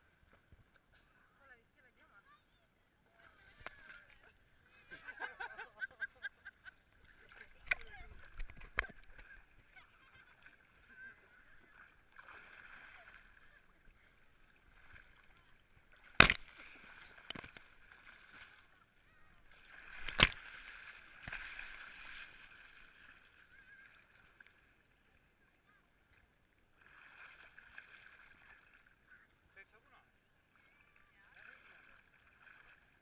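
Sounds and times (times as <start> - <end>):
muffled water splashing: 3.1 - 33.0.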